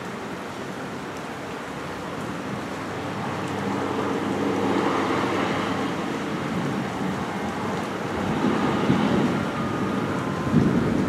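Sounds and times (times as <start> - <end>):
steady rain: 0.0 - 11.0
traffic hissing on wet road: 0.0 - 11.0.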